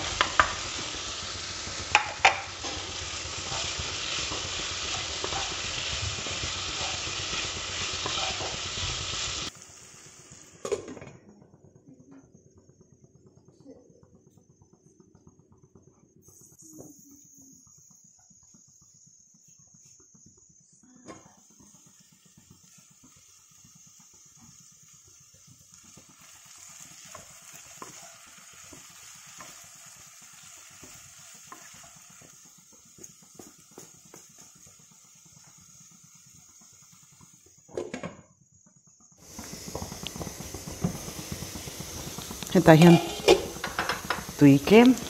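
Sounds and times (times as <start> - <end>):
vegetables sizzling in a pan: 0.0 - 11.2, 16.2 - 38.0, 39.1 - 45.0.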